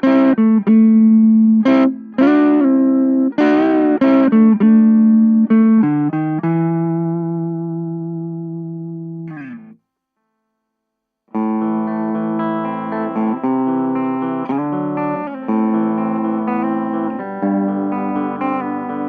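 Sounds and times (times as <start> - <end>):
electric guitar through amp: 0.0 - 9.8, 11.4 - 19.0.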